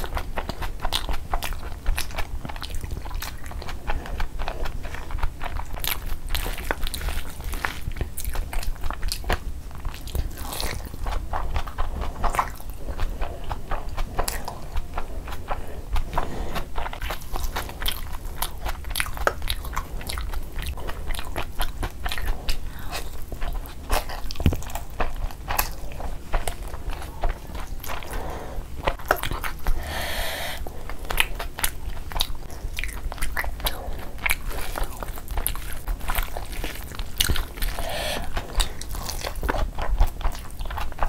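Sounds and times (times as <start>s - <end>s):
chewing with wet mouth clicks: 0.0s - 41.0s.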